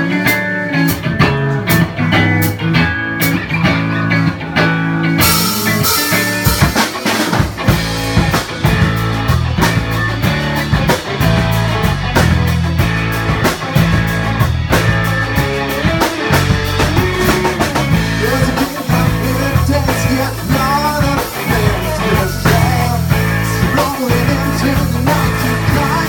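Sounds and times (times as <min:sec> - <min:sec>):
rock band playing: 0:00.0 - 0:26.0
drums and cymbals: 0:04.6 - 0:26.0.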